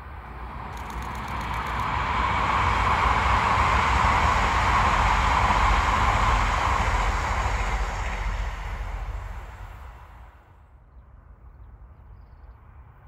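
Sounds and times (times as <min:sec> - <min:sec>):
train rushing past: 0:00.0 - 0:10.9.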